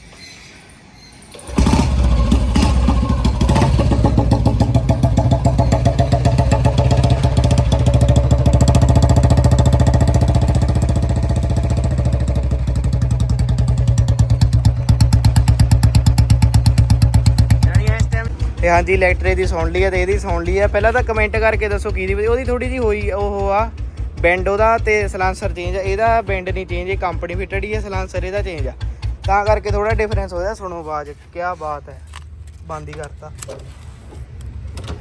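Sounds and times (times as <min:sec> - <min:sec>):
motorcycle engine thumping: 0:01.3 - 0:35.0.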